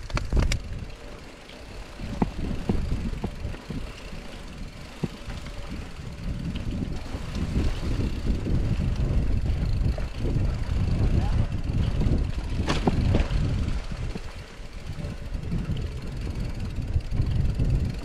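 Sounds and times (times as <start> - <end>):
bike clicks and rattles: 0.0 - 18.0
bike tyre rumble on dirt: 0.0 - 18.0
wind on microphone: 0.0 - 18.0.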